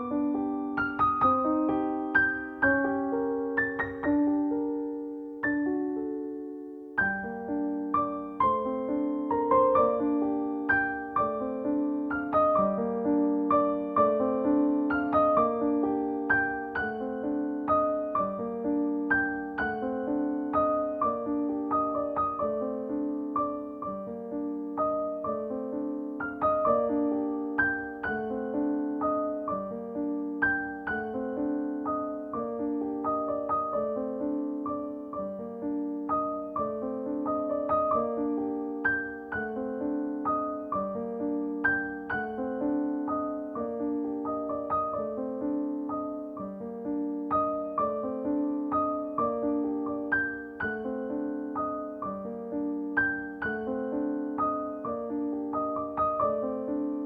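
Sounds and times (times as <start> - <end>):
gentle piano melody: 0.0 - 57.0.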